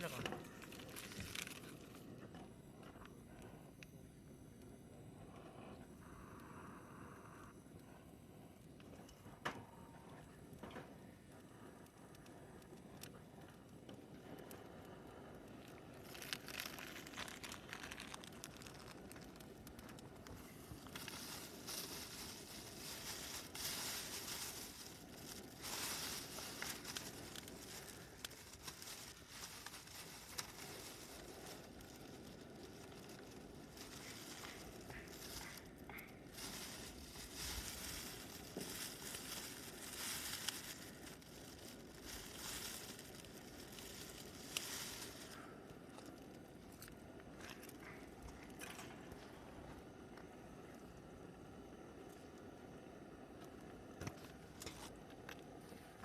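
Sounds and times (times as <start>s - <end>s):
rustling and crinkling: 0.0s - 3.6s, 8.8s - 50.9s, 53.3s - 56.0s.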